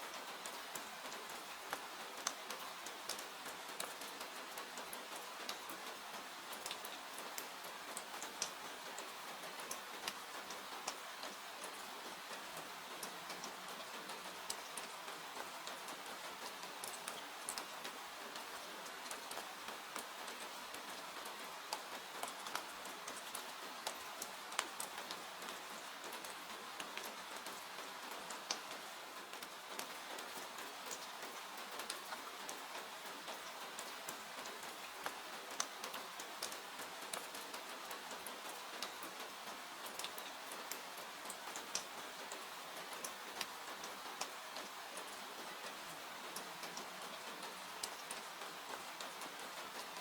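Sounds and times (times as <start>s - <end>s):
rain hiss: 0.0s - 50.0s.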